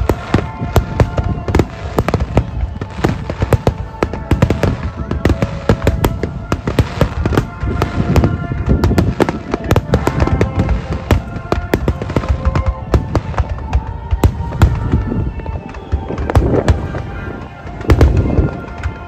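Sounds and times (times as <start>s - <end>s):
firework bangs and crackles: 0.0s - 19.0s.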